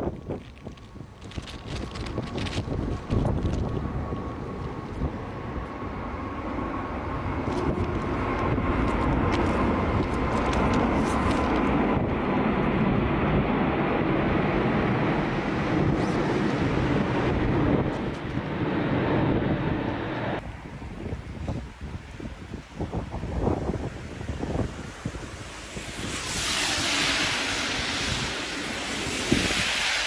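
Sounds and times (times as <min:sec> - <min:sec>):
jet engines roaring overhead: 0:02.0 - 0:21.0, 0:22.8 - 0:30.0.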